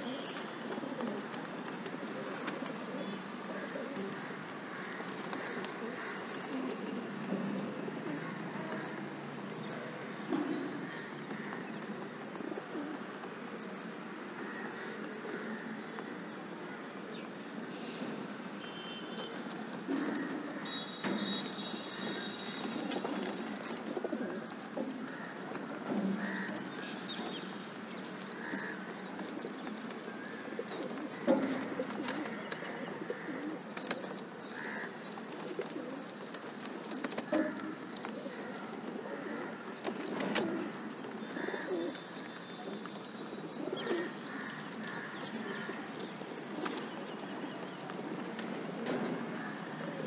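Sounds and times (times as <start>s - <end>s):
pigeons cooing: 0.0s - 16.3s, 19.2s - 50.0s.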